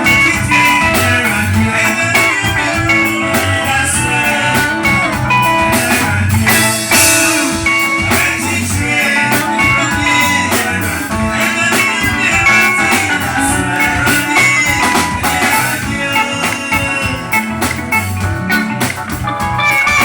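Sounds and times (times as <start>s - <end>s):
electric guitar: 0.0s - 20.0s
live band music: 0.0s - 20.0s
steady drum beat: 0.0s - 20.0s.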